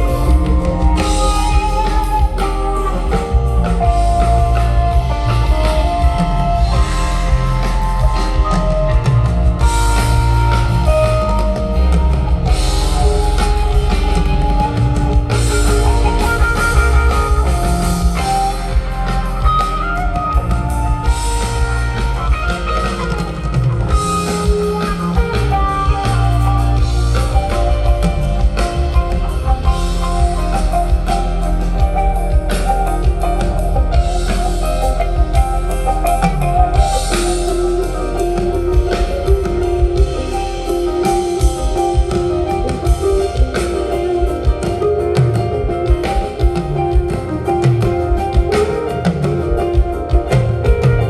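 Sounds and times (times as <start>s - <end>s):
bass guitar: 0.0s - 51.0s
drum kit: 0.0s - 51.0s
electric guitar: 0.0s - 51.0s.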